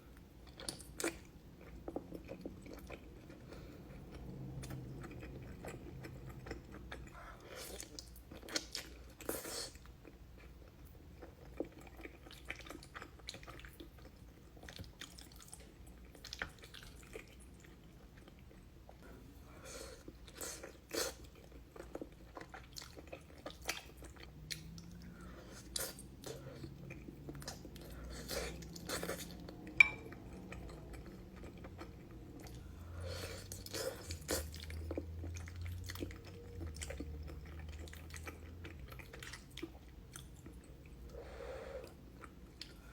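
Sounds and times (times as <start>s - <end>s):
person chewing food: 0.1s - 42.9s.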